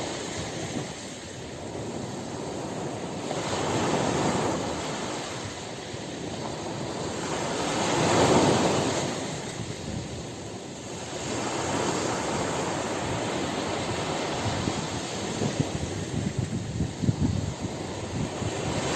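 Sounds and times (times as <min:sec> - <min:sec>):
ocean surf washing onto beach: 0:00.0 - 0:18.9.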